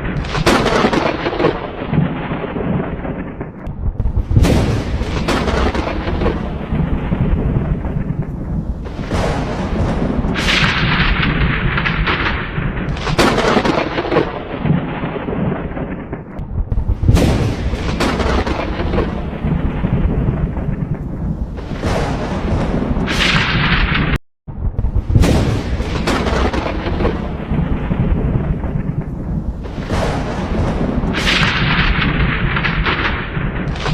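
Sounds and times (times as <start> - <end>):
crackling thunder peal: 0.0 - 33.9
thunder rumbling: 0.0 - 33.9.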